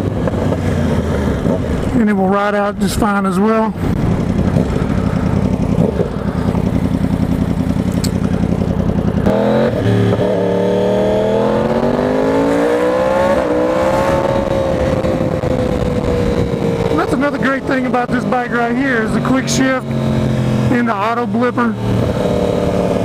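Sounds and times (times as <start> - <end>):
motorcycle engine revving: 0.0 - 3.0, 3.7 - 23.0.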